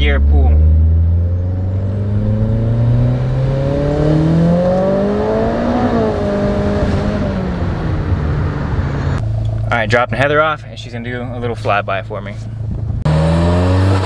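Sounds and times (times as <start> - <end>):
car engine revving: 0.0 - 10.3, 12.6 - 14.0.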